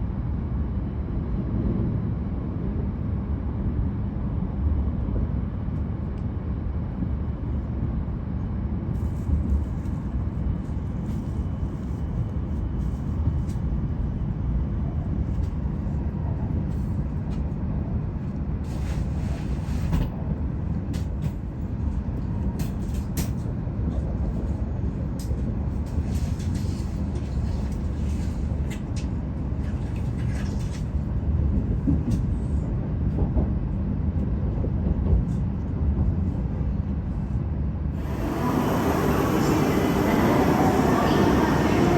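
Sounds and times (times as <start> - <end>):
train rumble inside passenger car: 0.0 - 41.9.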